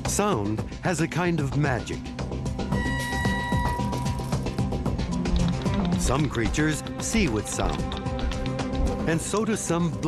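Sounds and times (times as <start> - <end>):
percussive soundtrack music: 1.2 - 10.0.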